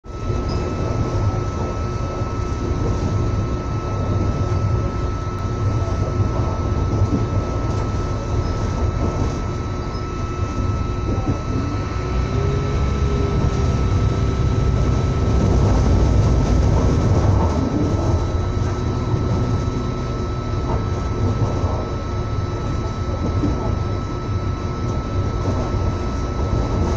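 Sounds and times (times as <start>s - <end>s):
thin steady whine: 0.0s - 26.9s
train wheels rumbling on track: 0.2s - 26.9s.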